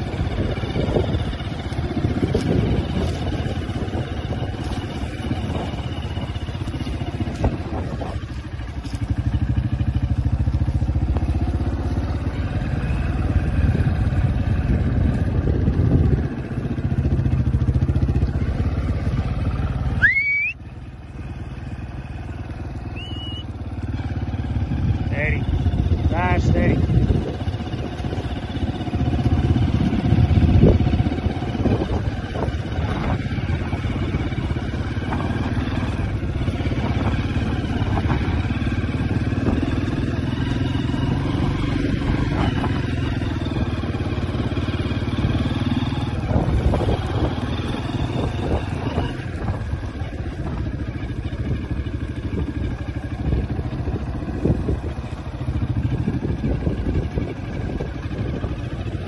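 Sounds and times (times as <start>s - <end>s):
wind on microphone: 0.0s - 19.7s, 24.2s - 59.0s
motorbike engine running: 0.0s - 59.0s.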